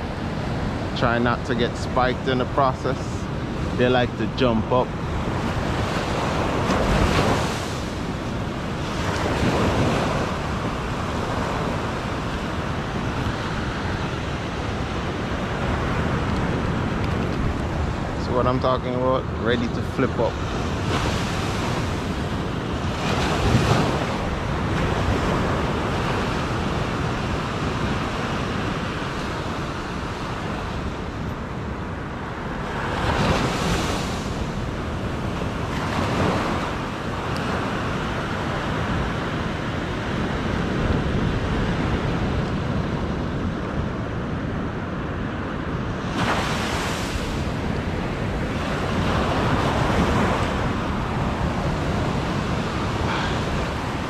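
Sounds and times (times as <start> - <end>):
surf washing onto beach: 0.0 - 54.0
wind buffeting microphone: 0.0 - 54.0.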